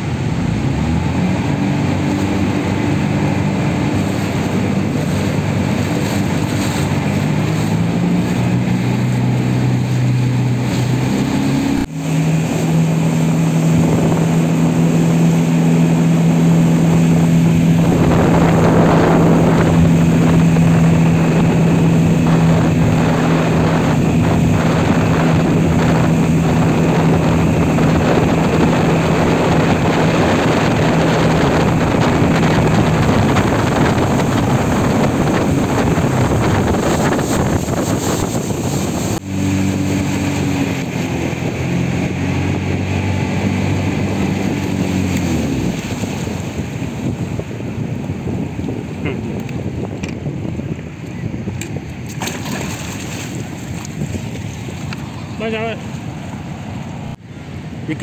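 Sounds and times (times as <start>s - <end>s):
speedboat engine running: 0.0s - 58.0s
wind noise on microphone: 0.0s - 58.0s.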